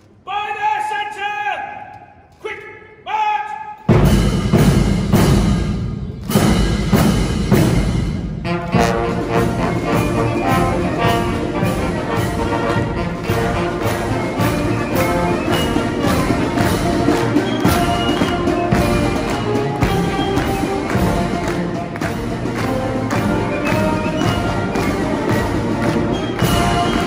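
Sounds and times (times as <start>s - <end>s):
drum beats: 3.9s - 27.0s
military band playing a march: 3.9s - 27.0s.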